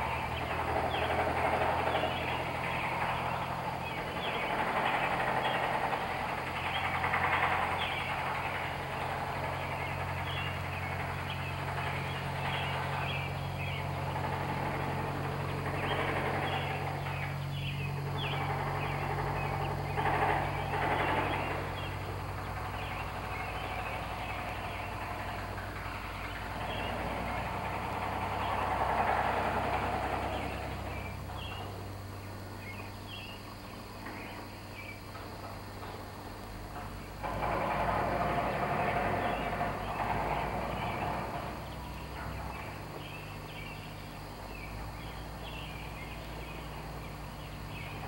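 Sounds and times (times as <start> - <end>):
diesel engines idling: 0.0 - 48.0.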